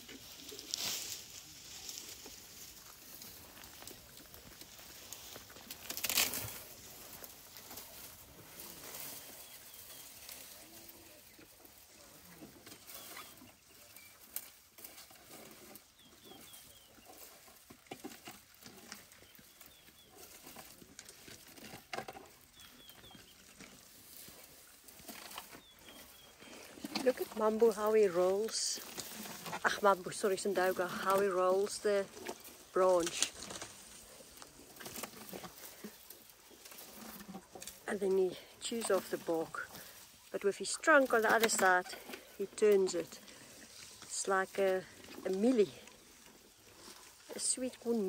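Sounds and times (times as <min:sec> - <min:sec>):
branches and leaves rustling: 0:00.0 - 0:48.0.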